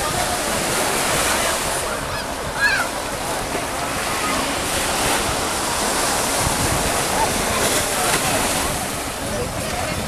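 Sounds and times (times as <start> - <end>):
water lapping: 0.0 - 10.0
wind: 0.0 - 10.0
wind buffeting microphone: 0.0 - 10.0.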